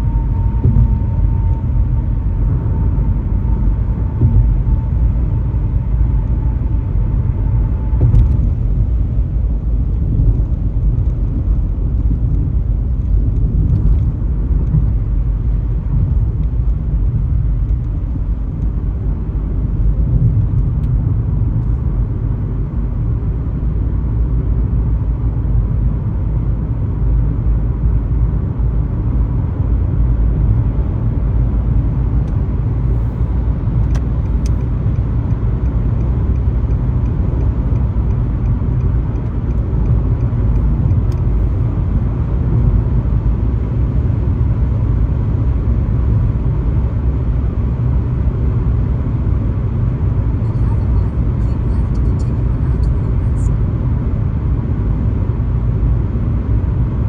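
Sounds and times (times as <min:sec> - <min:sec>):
car engine and tyre road noise: 0:00.0 - 0:57.0.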